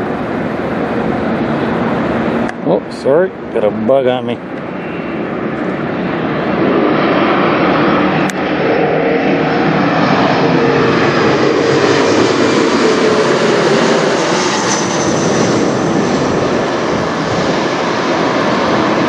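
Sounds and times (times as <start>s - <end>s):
faint jet whine: 0.0s - 19.0s
jet airliner engine roar: 0.0s - 19.0s.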